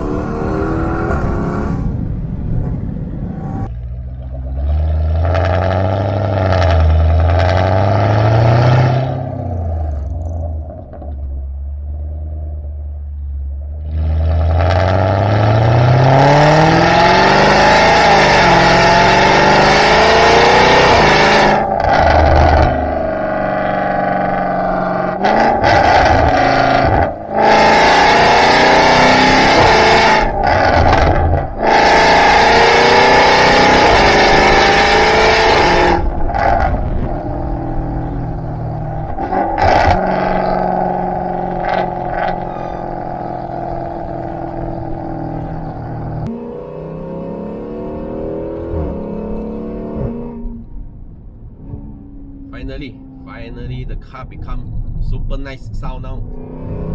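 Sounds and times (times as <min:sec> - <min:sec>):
car engine revving: 0:00.0 - 0:13.0, 0:13.8 - 0:56.9.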